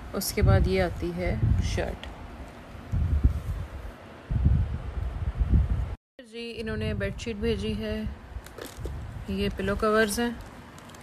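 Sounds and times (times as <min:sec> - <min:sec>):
wind buffeting microphone: 0:00.0 - 0:06.0, 0:06.6 - 0:10.6.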